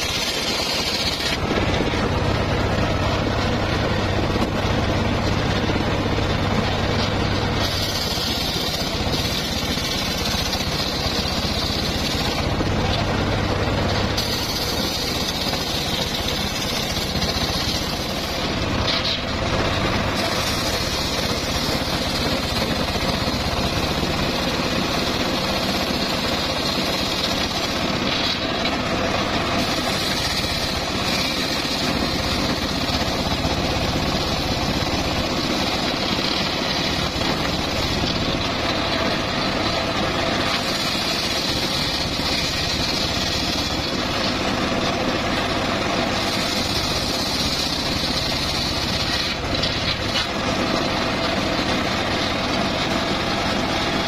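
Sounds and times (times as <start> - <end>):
table saw ripping log: 0.0 - 54.0.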